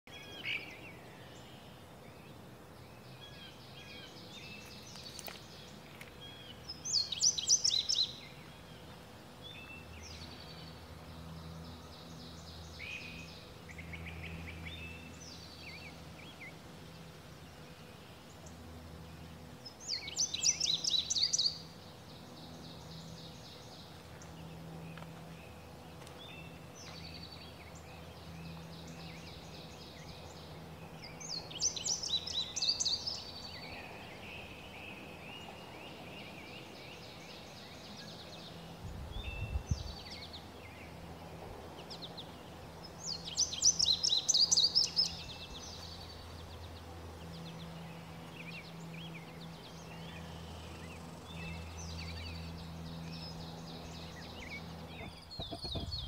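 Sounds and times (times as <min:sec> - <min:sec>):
bird song of quick repeated notes: 0:00.1 - 0:56.0
other birds singing faintly: 0:00.1 - 0:56.0.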